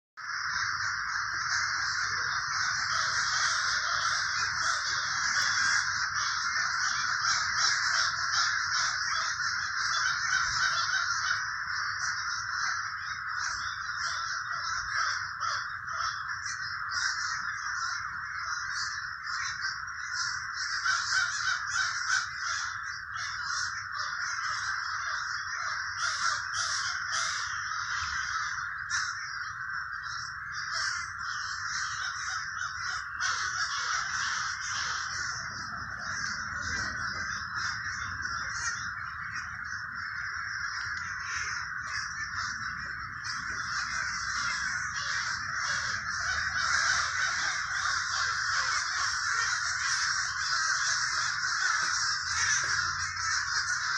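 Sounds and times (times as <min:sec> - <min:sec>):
crows cawing: 0:00.2 - 0:53.9.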